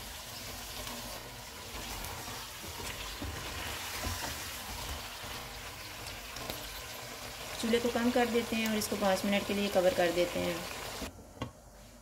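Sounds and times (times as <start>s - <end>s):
food sizzling in hot oil: 0.0s - 11.1s.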